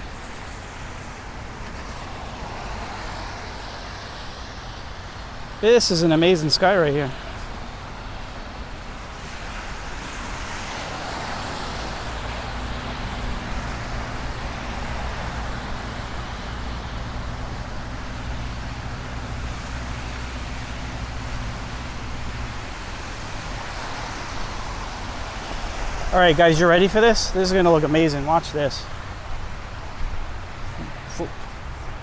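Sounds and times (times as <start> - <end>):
low engine hum: 0.0 - 32.0
passing cars traffic noise: 0.0 - 32.0.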